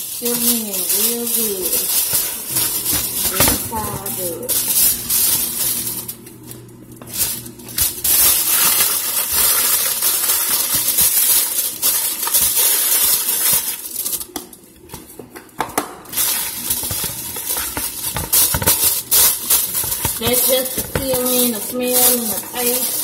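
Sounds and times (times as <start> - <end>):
aluminum foil crinkling: 0.0 - 15.2, 16.0 - 23.0.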